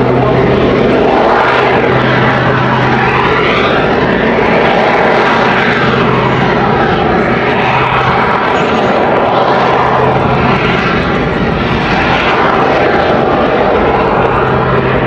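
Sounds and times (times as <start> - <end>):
aircraft engines passing: 0.0 - 15.0.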